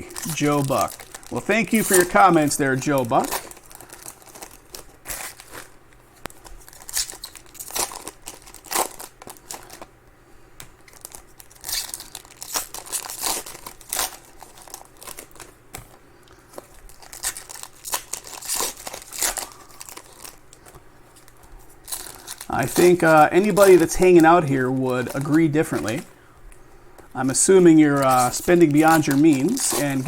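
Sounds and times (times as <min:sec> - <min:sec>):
foil wrappers crinkling and tearing: 0:00.0 - 0:09.9, 0:10.8 - 0:15.6, 0:16.4 - 0:26.4, 0:27.0 - 0:30.0.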